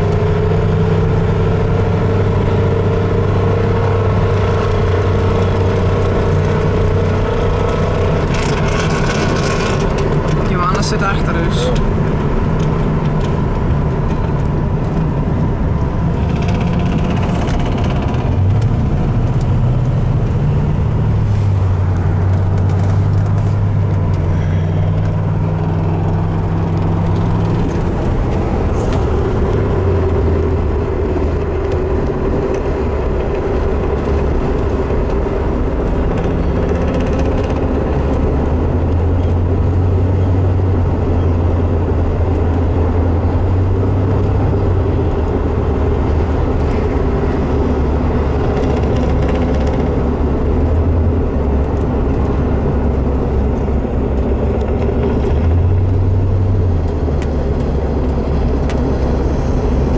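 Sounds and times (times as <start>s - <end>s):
car engine drone from inside cabin: 0.0s - 59.9s.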